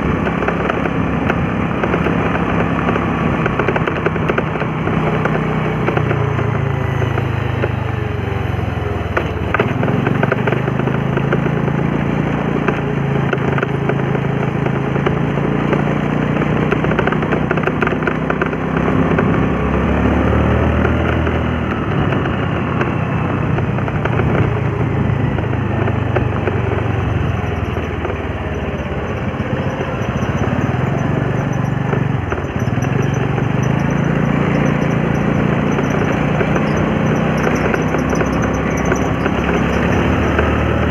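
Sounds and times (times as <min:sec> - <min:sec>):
small motorbike engine: 0:00.0 - 0:40.9.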